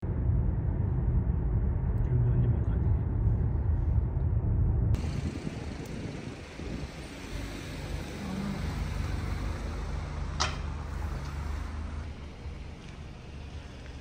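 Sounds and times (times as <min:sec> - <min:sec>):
car engine rumble: 0:00.0 - 0:14.0
street traffic: 0:00.0 - 0:14.0.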